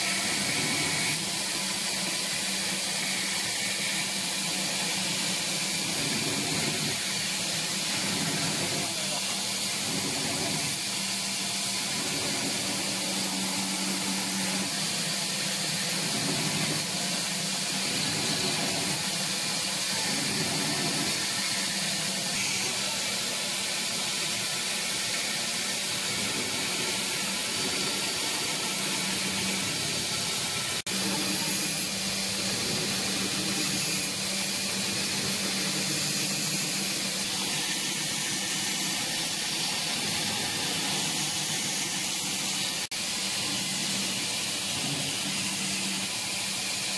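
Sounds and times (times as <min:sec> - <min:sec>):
belt grinder grinding blade: 0:00.0 - 0:23.2, 0:24.4 - 0:46.9.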